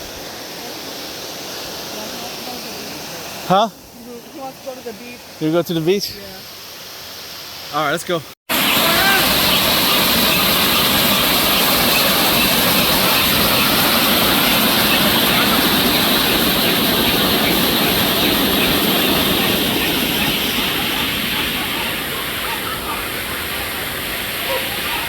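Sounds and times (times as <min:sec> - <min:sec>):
waterfall rushing: 0:00.0 - 0:06.2, 0:07.8 - 0:25.0.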